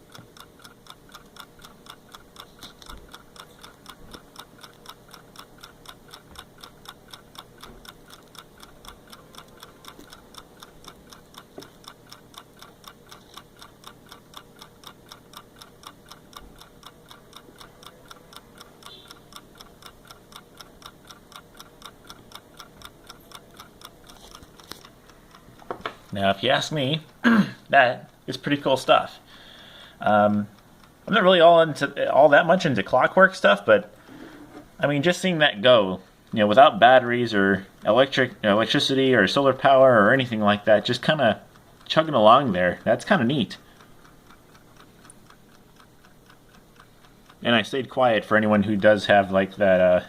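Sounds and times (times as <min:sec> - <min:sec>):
clock ticking: 0:00.0 - 0:50.0.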